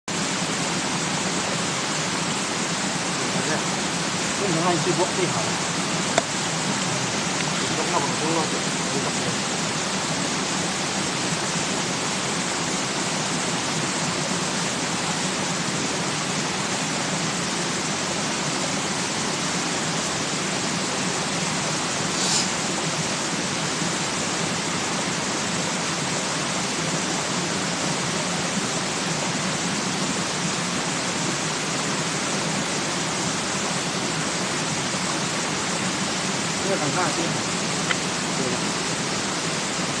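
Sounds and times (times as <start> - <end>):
flowing water rushing: 0.1 - 40.0.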